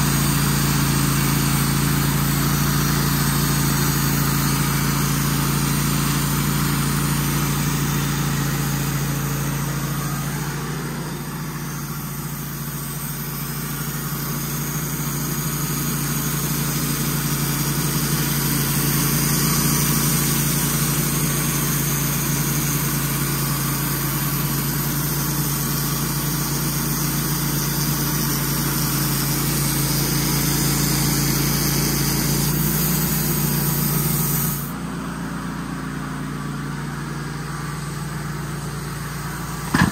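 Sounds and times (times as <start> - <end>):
saw blade hissing through wood: 0.0 - 35.1, 36.9 - 39.9
sawmill engine running: 0.0 - 39.9.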